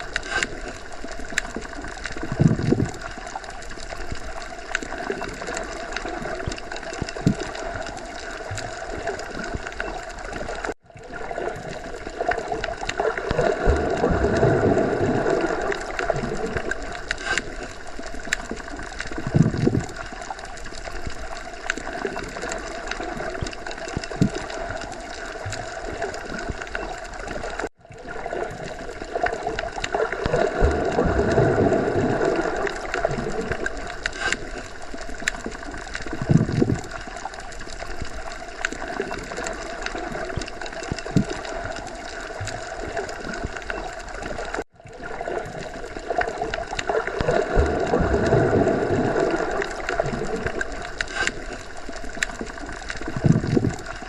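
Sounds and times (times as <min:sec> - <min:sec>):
underwater moving water: 0:00.0 - 0:54.0
water gurgling and bubbling: 0:00.0 - 0:54.0.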